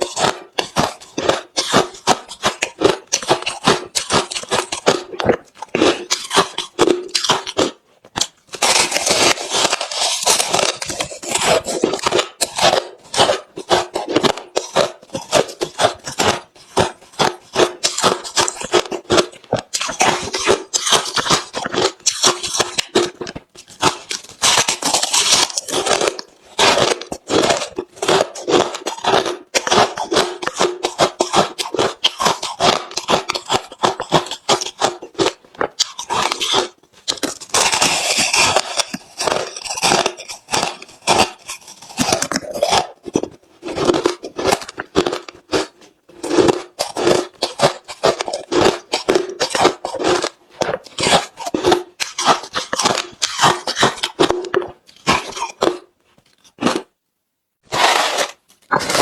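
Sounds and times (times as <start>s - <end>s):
ice being chewed: 0.0s - 57.0s, 57.6s - 59.0s.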